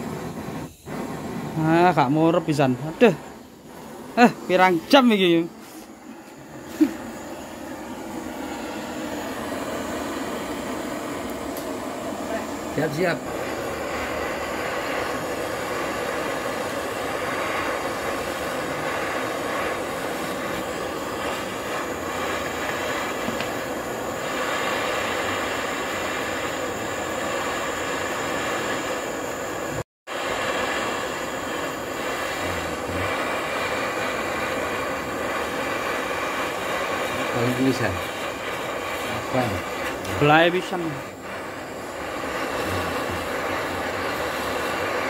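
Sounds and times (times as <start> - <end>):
gas torch hissing: 0.0 - 45.0.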